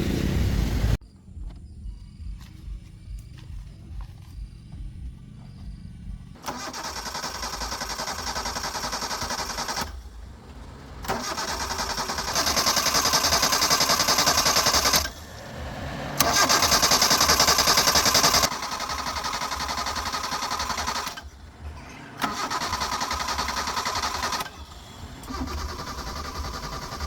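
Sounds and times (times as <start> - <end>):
starter motor cranking engine: 2.4 - 27.0.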